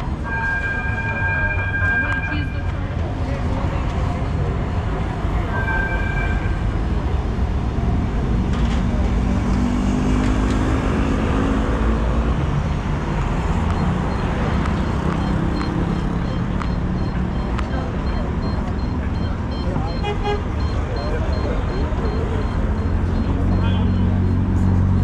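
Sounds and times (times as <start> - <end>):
traffic rumble: 0.0 - 25.0
vehicle engine hum: 0.0 - 25.0.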